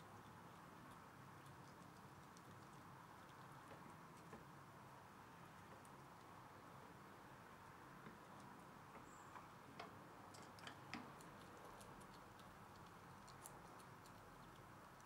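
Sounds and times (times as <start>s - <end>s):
squirrel gnawing clicks and cracks: 0.0s - 15.0s.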